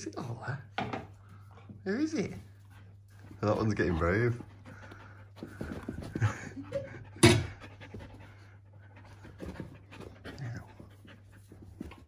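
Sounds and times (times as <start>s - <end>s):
dog panting: 1.3s - 12.0s.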